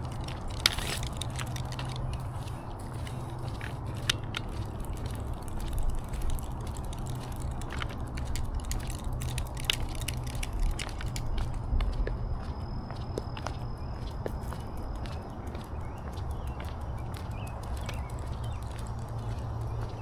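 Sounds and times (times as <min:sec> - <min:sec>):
footsteps crunching on trail: 0:00.0 - 0:20.0
steady low rumble: 0:00.0 - 0:20.0.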